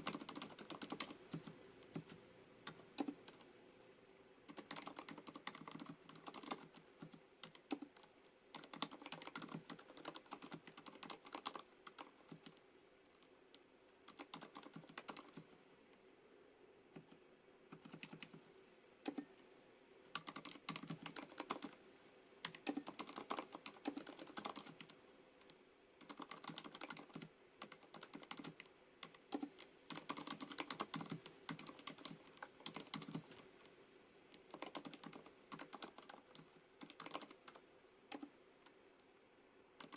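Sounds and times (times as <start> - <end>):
quiet mechanical keyboard typing: 0.0 - 3.6, 4.4 - 15.6, 16.9 - 19.4, 20.1 - 21.8, 22.4 - 39.1.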